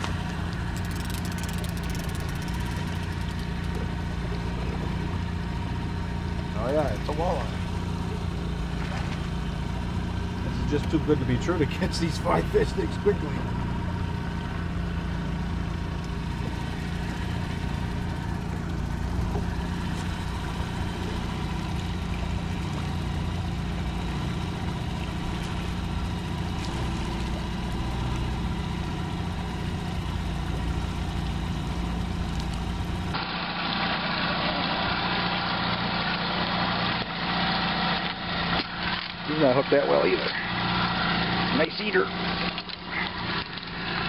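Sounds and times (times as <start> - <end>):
outboard motor running: 0.0 - 44.0.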